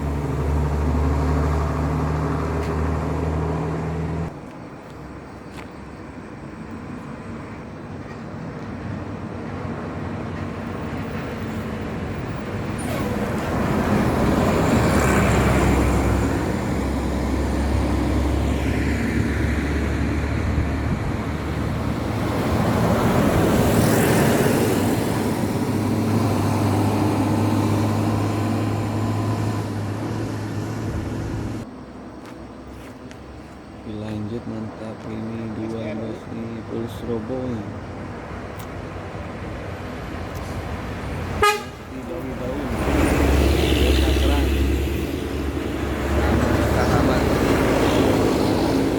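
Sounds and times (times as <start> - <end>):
buses passing: 0.0 - 48.9.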